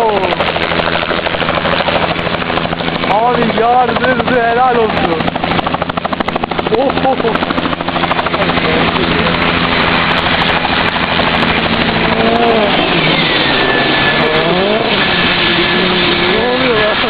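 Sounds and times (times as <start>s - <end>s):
helicopter rotor wash: 0.0s - 17.0s.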